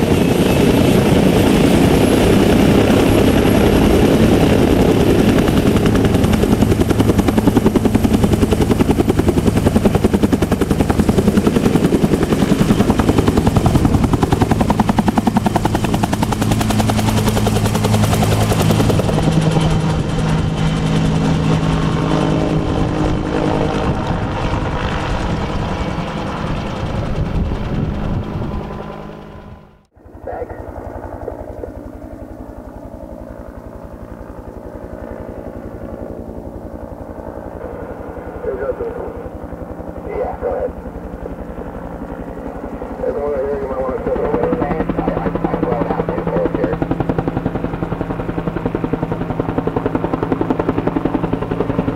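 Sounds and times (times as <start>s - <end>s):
helicopter engine whine: 0.0s - 51.9s
helicopter rotor beat: 0.0s - 51.9s.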